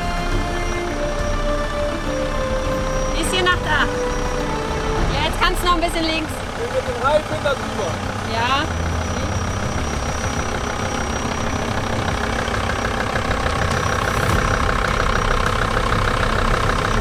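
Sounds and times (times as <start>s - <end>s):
van engine running: 0.0s - 17.0s.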